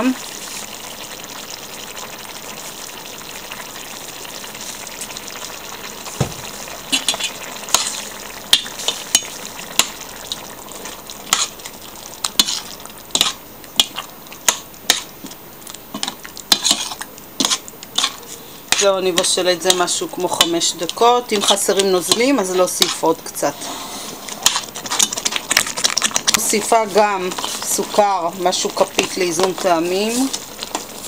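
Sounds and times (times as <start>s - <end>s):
sauce sizzling and bubbling: 0.0s - 31.0s.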